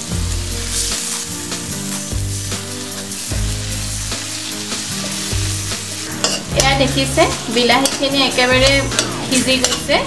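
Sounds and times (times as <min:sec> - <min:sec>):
food sizzling in hot oil: 0:00.0 - 0:10.0
metal spoon stirring: 0:00.7 - 0:10.0.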